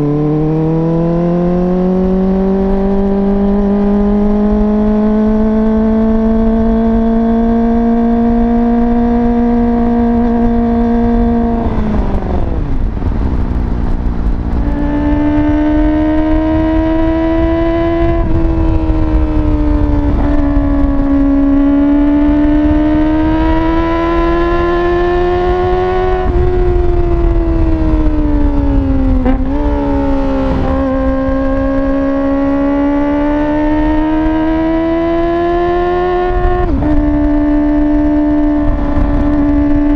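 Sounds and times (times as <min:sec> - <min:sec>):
loud motorcycle engine revving: 0:00.0 - 0:13.2, 0:14.5 - 0:39.9.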